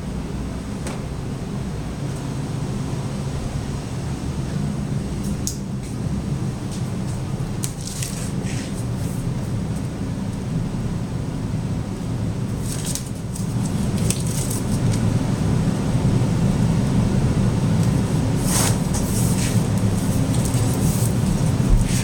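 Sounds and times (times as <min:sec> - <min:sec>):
steady low rumble: 0:00.0 - 0:08.2, 0:08.8 - 0:22.0.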